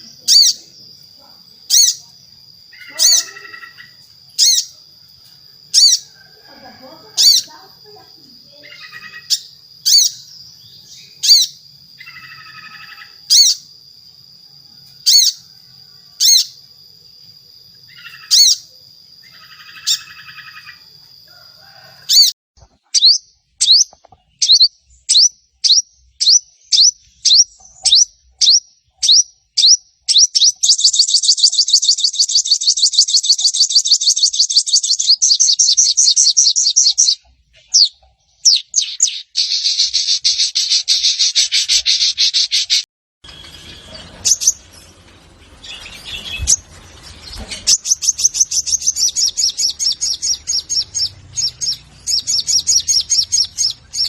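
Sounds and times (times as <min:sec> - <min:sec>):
bird calls and trill: 0:00.0 - 0:54.0.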